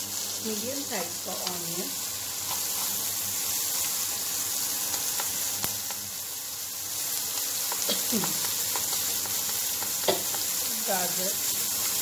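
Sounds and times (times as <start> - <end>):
onion sizzling in a frying pan: 0.0 - 12.0.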